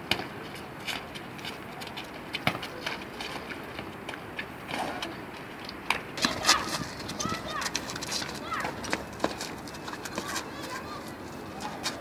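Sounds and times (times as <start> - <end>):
players' footsteps running: 0.1 - 12.0.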